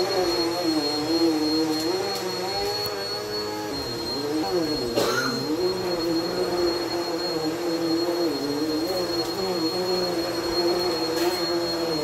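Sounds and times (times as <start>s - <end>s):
high whine: 0.0s - 12.0s
vacuum cleaner motor hum: 0.0s - 12.0s.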